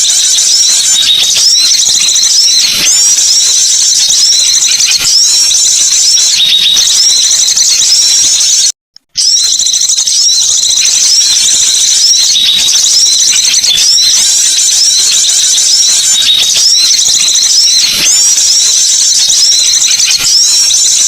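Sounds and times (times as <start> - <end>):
recorded bird calls chirping: 0.0 - 21.0.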